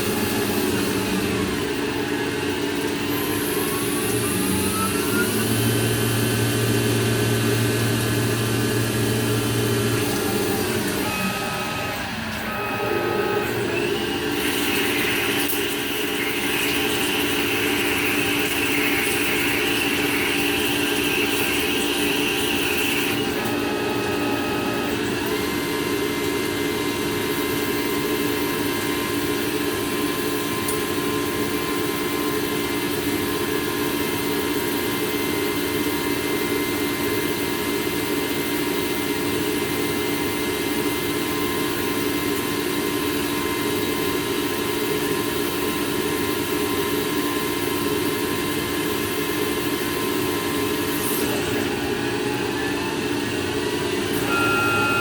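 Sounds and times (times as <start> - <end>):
metal lathe humming: 0.0 - 55.0
thin machine whine: 0.0 - 55.0.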